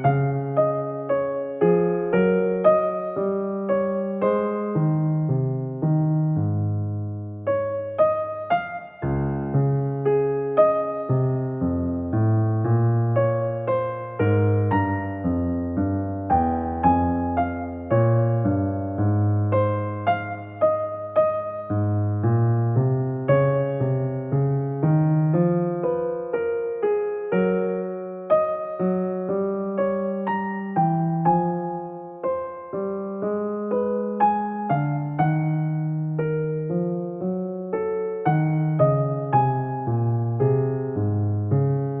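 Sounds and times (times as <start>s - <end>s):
gentle electric piano music: 0.0s - 42.0s.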